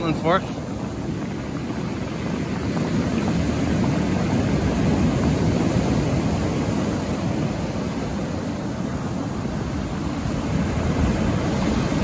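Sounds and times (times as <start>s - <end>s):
sea surf crashing on shore: 0.0s - 12.0s.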